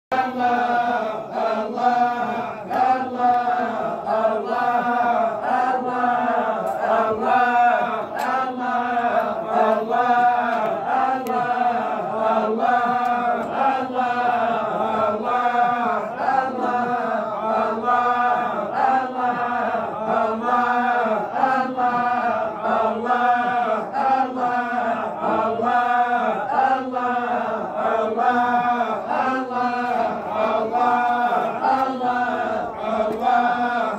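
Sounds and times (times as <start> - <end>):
men chanting in unison: 0.1 - 33.9.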